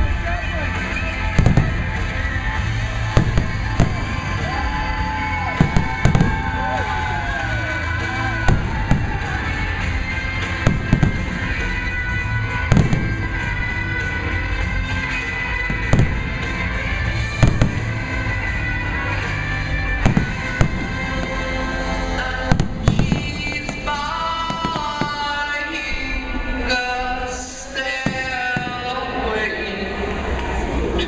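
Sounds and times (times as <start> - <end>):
fireworks booming: 0.0 - 29.5
loud music: 0.0 - 31.0.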